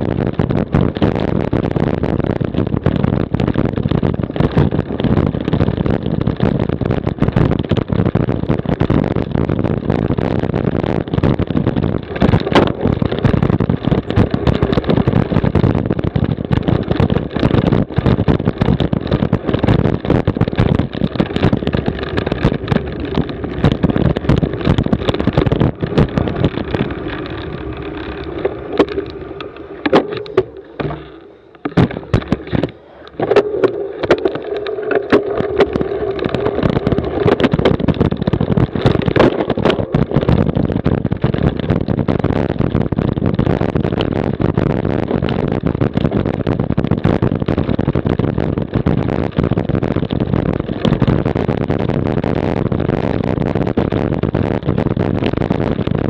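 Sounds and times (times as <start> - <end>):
bike rattles and knocks: 0.0 - 56.0
bike rumbling over bumpy grass: 0.0 - 56.0.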